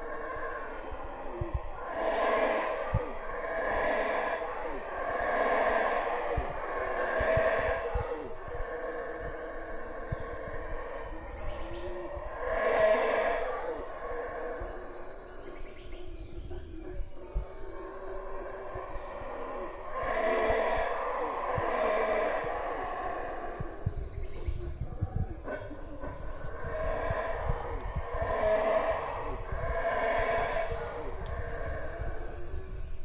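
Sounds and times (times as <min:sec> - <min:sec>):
howler monkeys howling: 0:00.0 - 0:32.8
high-pitched insect drone: 0:00.0 - 0:33.0.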